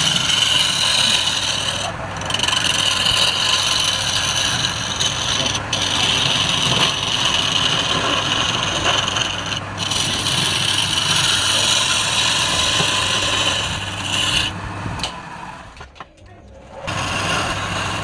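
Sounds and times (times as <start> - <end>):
lathe humming: 0.0 - 15.8, 16.8 - 18.0
tool scraping spinning wood: 0.0 - 15.8, 16.8 - 18.0.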